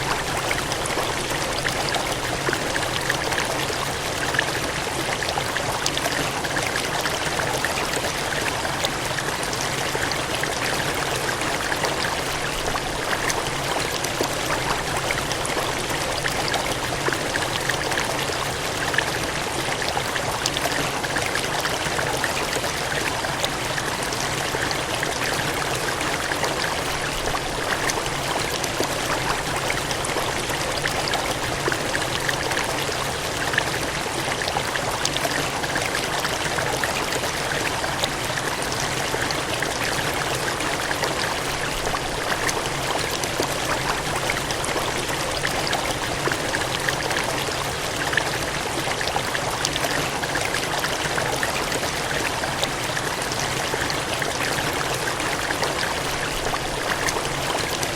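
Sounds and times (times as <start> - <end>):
cascading water: 0.0 - 57.9.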